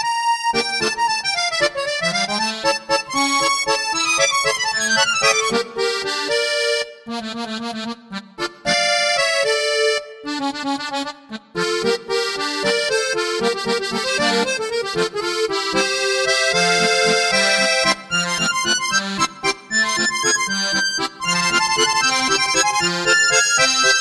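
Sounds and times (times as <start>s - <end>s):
accordion waltz: 0.0s - 24.0s.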